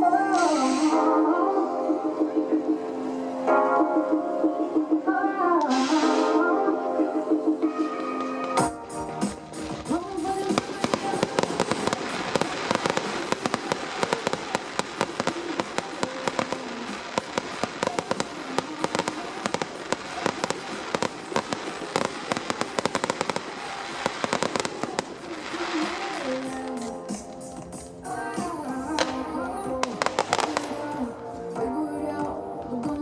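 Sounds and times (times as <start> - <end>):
fireworks crackling: 0.0 - 1.6, 5.6 - 31.6.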